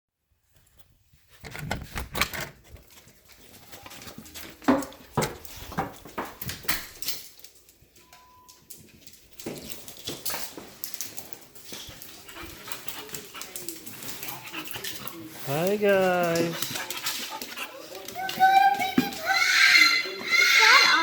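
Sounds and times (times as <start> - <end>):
rustling: 0.4 - 8.1, 8.8 - 19.3.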